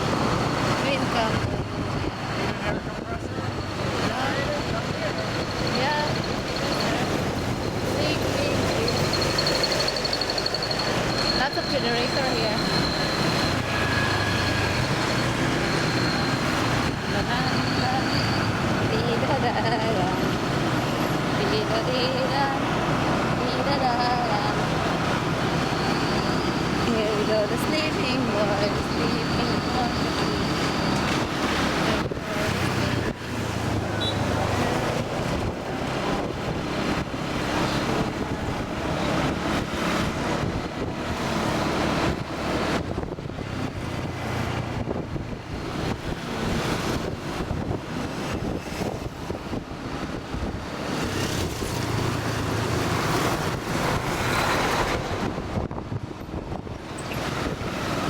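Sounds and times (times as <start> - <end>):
traffic noise: 0.0 - 58.0
wind buffeting microphone: 0.0 - 58.0.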